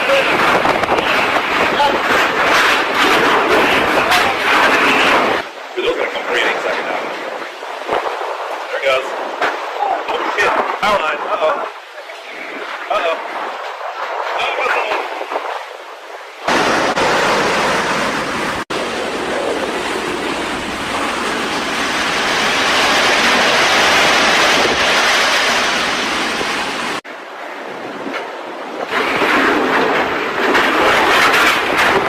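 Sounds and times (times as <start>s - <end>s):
strong wind roaring: 0.0s - 32.0s.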